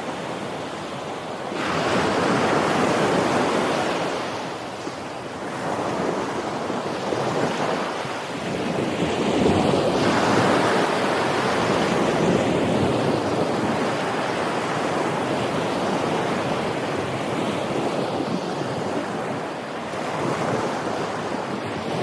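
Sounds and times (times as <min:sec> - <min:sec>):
ocean waves breaking on shore: 0:00.0 - 0:22.0
wind buffeting microphone: 0:00.0 - 0:22.0.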